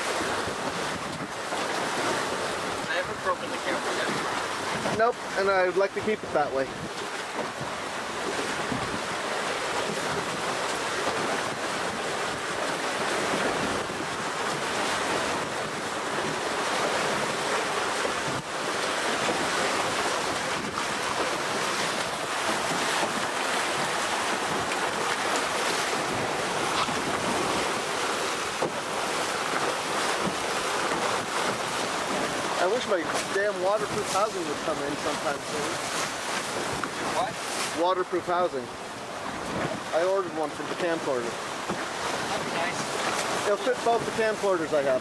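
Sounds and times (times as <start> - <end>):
wind on the microphone: 0.0 - 5.3, 6.0 - 37.8, 38.6 - 39.9
water streaming past a hull: 0.0 - 45.0.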